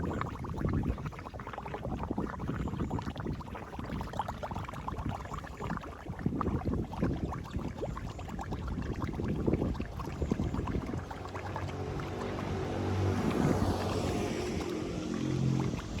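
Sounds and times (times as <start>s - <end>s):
water gurgling through grate: 0.0s - 16.0s.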